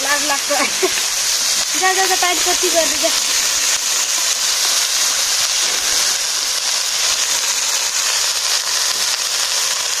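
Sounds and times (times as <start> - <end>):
greens sizzling in hot oil: 0.0 - 10.0.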